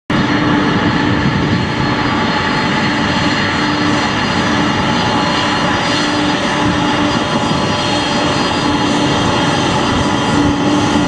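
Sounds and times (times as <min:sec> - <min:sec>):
jet engines running: 0:00.1 - 0:11.0.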